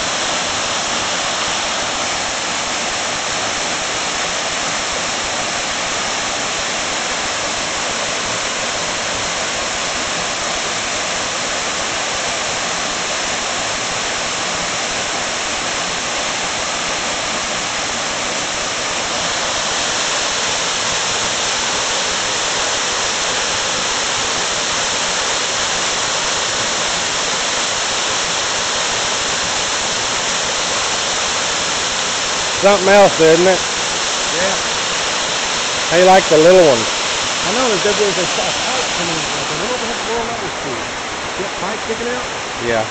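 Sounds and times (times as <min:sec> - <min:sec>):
waterfall rushing into pool: 0:00.0 - 0:42.9.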